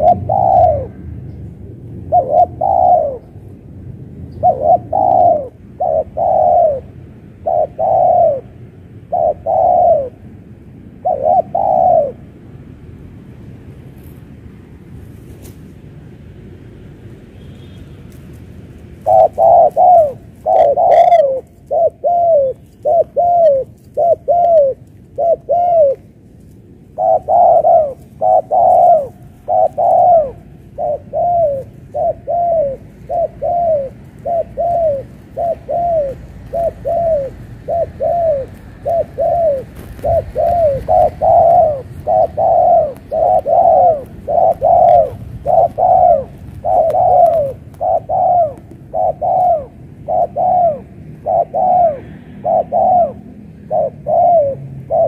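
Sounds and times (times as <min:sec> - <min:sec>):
dove cooing: 0:00.0 - 0:03.6, 0:04.3 - 0:10.4, 0:11.0 - 0:12.4, 0:18.9 - 0:55.0.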